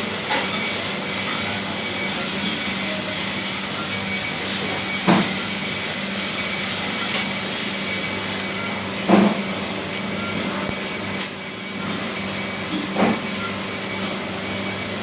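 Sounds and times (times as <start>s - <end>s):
machinery hum with hiss: 0.0s - 15.0s.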